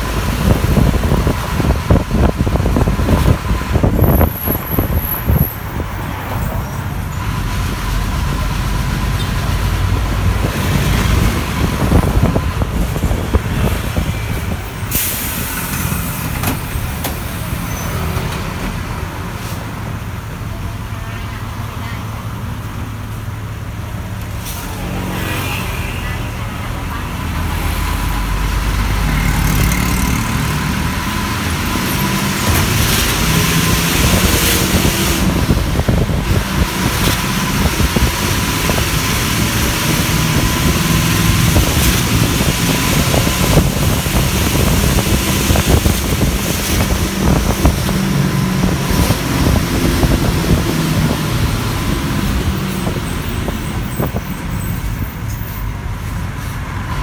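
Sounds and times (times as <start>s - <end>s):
bus engine rumble: 0.0s - 57.0s
road and traffic noise: 0.0s - 57.0s.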